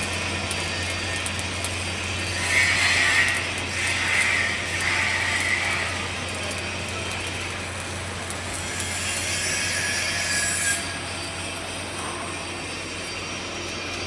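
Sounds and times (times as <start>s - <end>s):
machinery humming: 0.0s - 14.0s
high metallic squeal: 0.5s - 6.1s, 8.3s - 14.0s.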